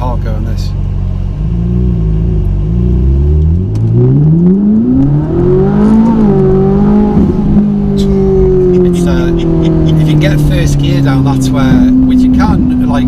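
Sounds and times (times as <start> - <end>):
sports car engine accelerating: 0.2 - 13.0.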